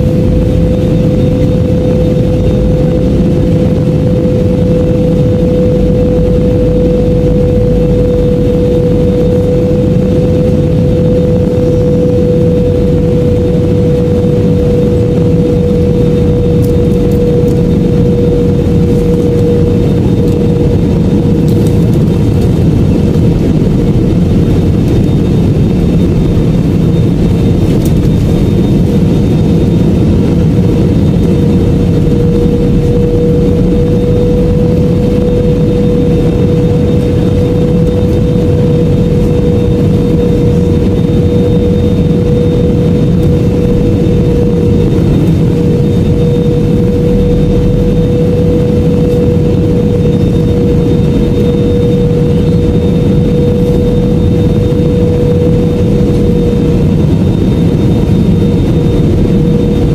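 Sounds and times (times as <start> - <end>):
jet cabin engine roar: 0.0 - 59.9
steady hum: 0.0 - 59.9.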